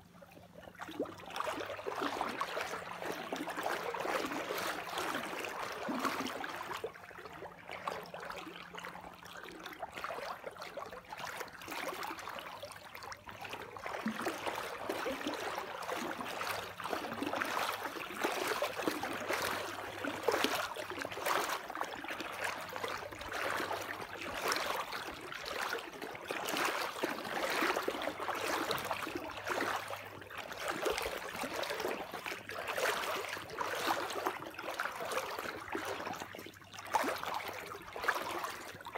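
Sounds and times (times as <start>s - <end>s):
water flowing and splashing: 0.0s - 38.9s.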